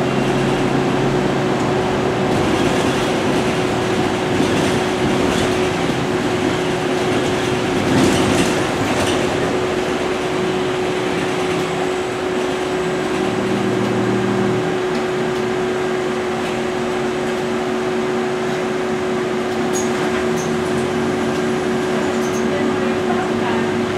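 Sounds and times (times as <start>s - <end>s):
bus engine running: 0.0s - 23.9s
road noise: 0.0s - 23.9s.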